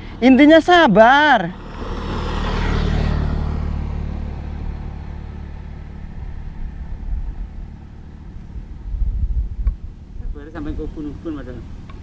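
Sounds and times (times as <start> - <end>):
low engine rumble passing by: 0.0 - 12.0.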